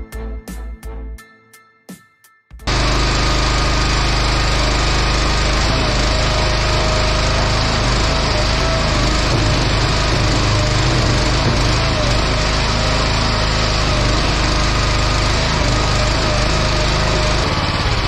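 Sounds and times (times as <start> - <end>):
small gas engine running: 2.7 - 18.0.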